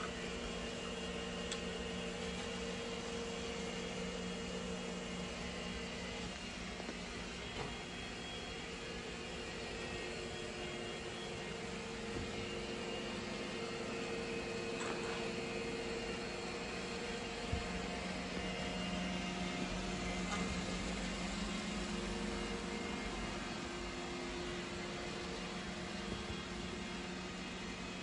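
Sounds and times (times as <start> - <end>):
appliance hum and whir: 0.0 - 28.0.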